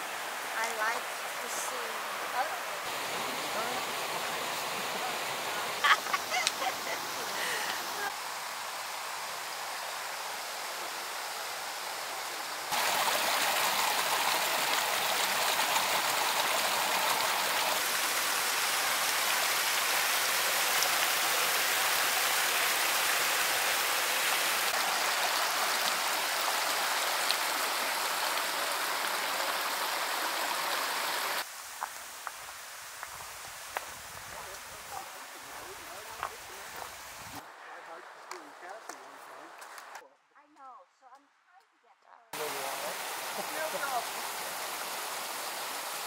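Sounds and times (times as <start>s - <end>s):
creek water rushing: 0.0s - 40.0s, 42.4s - 46.0s.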